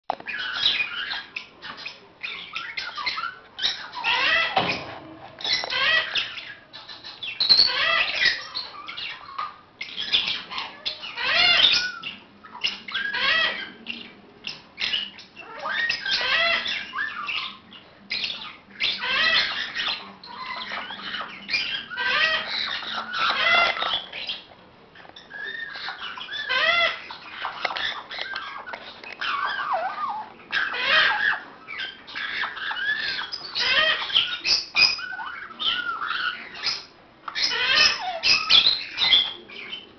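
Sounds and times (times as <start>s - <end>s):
parrots squawking: 0.3s - 24.5s, 25.1s - 39.9s.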